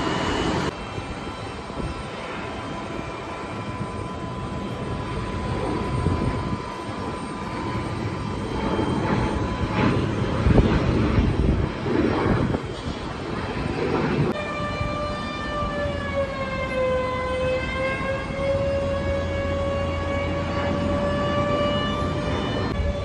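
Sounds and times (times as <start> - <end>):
jet engines roaring on takeoff: 0.0 - 23.0.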